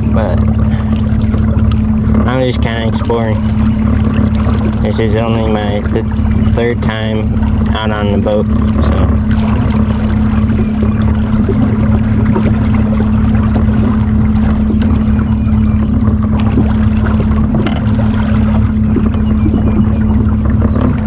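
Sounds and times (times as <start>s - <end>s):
electric boat motor humming: 0.0s - 21.0s.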